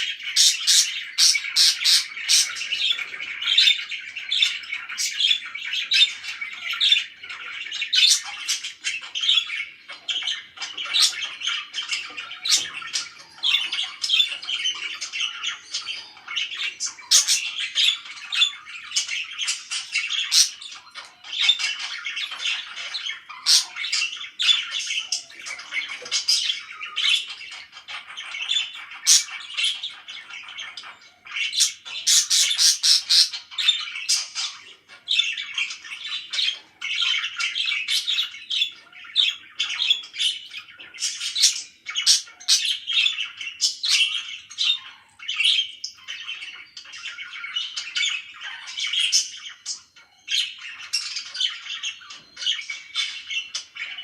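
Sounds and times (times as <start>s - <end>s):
parakeet squawks: 0.0s - 54.0s
parakeets chattering and chirping: 0.0s - 54.0s.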